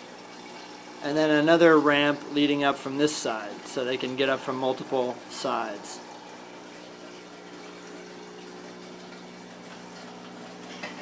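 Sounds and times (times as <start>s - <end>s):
pump humming: 0.0s - 11.0s.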